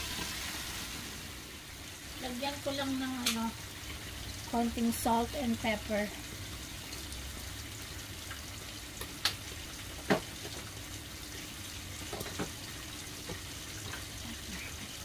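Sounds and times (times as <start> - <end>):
chicken frying in a pan: 0.0 - 15.0.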